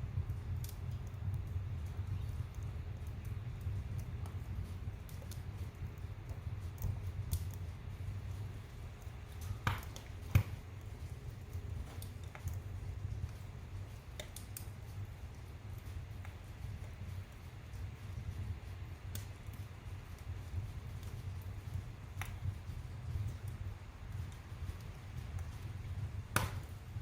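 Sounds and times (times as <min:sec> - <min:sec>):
fire crackles and pops: 0:00.0 - 0:27.0
rumble of flames: 0:00.0 - 0:27.0.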